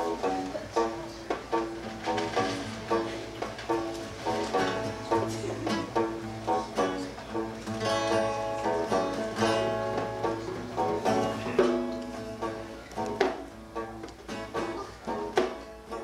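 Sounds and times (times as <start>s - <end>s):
acoustic guitar: 0.0s - 16.0s
banjo: 0.0s - 16.0s.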